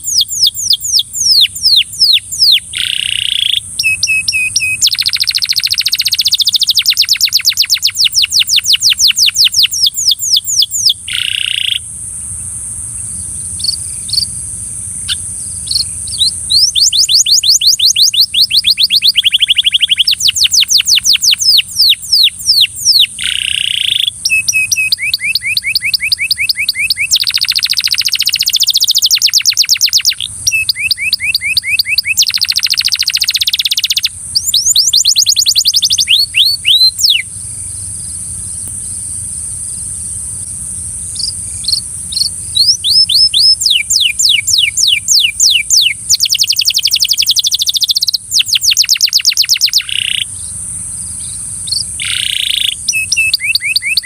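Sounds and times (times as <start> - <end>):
canary singing: 0.0 - 11.9, 13.2 - 38.8, 41.1 - 54.0
high-pitched hiss: 0.0 - 54.0.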